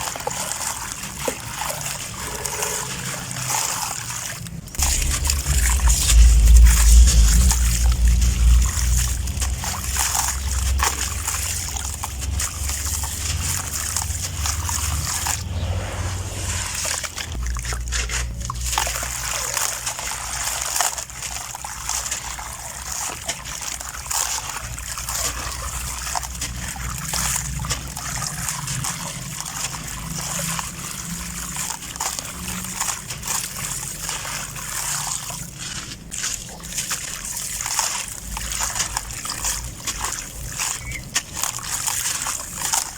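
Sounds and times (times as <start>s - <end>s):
crunchy crackles of grains: 0.0s - 42.9s
water sloshing and trickling: 0.0s - 42.9s.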